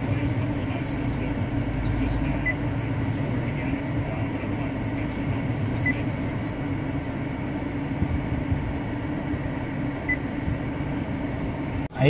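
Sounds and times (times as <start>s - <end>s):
air conditioning running: 0.0s - 12.0s
car engine idling hum: 0.0s - 12.0s.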